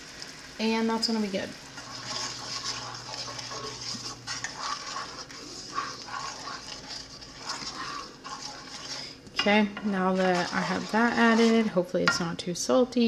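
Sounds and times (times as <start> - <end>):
pan sizzling: 0.0 - 12.9
spoon scraping a skillet: 0.9 - 12.3.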